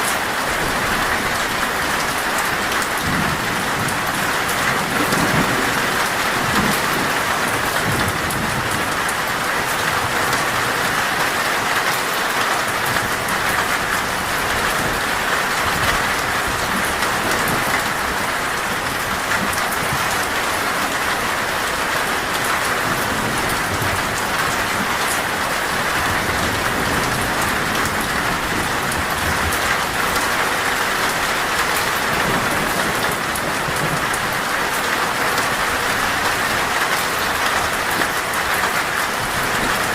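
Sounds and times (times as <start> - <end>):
torrential rain on a metal roof: 0.0 - 39.9.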